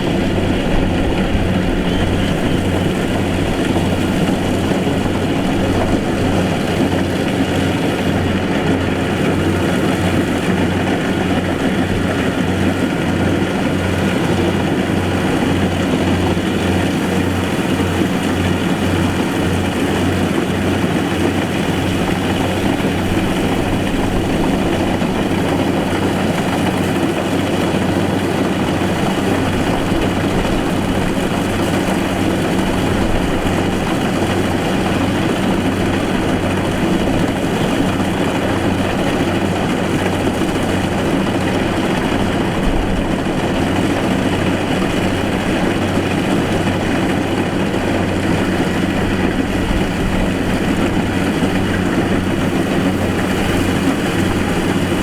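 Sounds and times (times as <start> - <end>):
harvester diesel engine running: 0.0 - 55.0.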